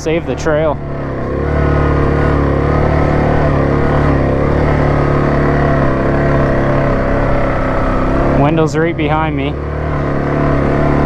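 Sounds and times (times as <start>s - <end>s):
quad bike engine under load: 0.0s - 11.0s.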